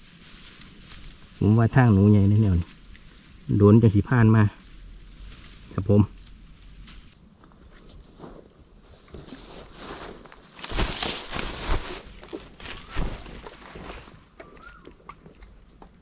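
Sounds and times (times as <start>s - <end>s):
boot footsteps crunching dry grass: 0.0s - 14.8s.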